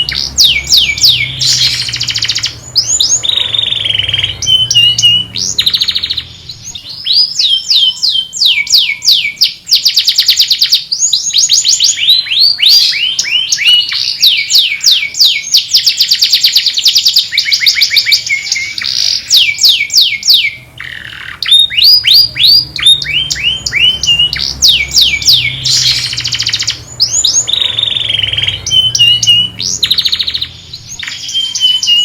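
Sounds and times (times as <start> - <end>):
canary singing trills: 0.0 - 32.0.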